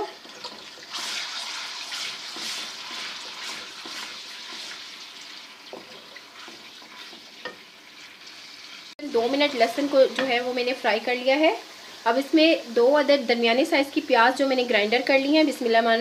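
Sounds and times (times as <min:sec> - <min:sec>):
paste sizzling in hot oil: 0:00.0 - 0:15.8.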